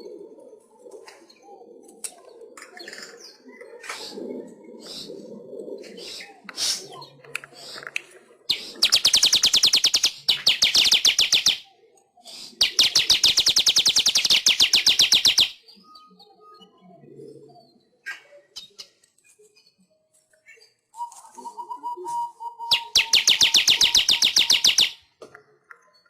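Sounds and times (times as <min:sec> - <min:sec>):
bird buzzy chatter: 0:00.0 - 0:16.2, 0:20.2 - 0:25.1.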